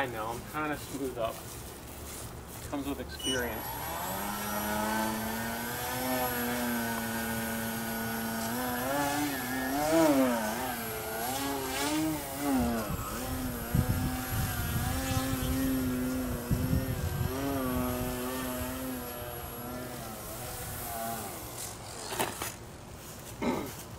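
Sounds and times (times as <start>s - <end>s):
model plane motor whining: 3.3s - 22.6s.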